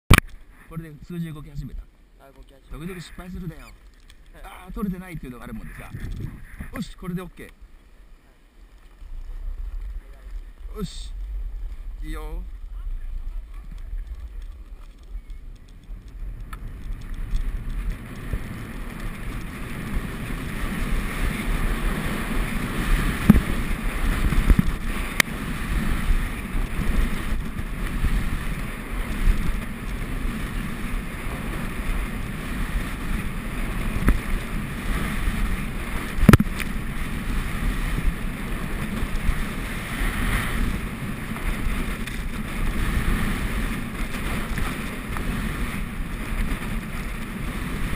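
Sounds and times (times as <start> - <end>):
skis scraping on snow: 0.4 - 47.9
wind rushing over microphone: 2.7 - 7.8, 8.8 - 47.9.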